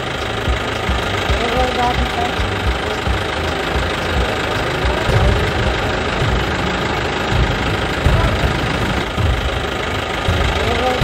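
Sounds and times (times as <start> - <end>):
engine running with rumbling pulses: 0.0 - 11.0.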